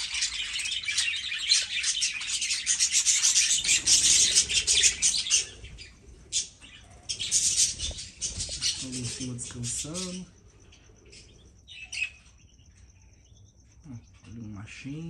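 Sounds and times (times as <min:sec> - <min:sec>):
budgerigars chattering and chirping: 0:00.0 - 0:15.0.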